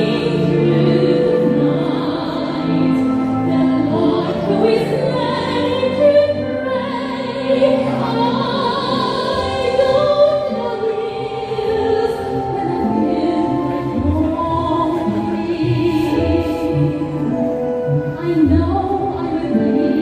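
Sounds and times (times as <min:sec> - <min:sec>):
soprano singing operatically: 0:00.0 - 0:20.0.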